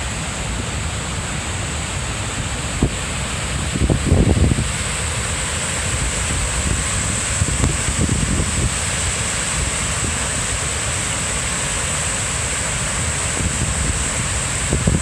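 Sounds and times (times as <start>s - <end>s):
floodwater rushing roar: 0.0s - 15.0s.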